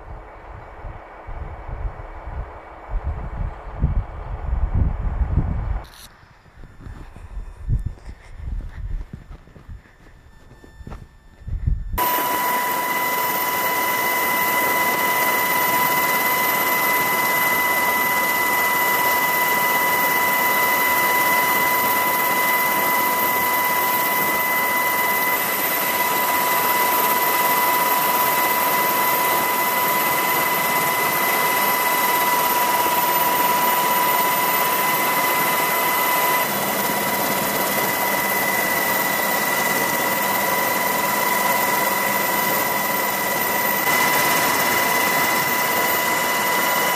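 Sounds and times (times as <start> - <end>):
helicopter turbine and rotor noise: 0.0 - 46.9
high whine: 0.0 - 46.9.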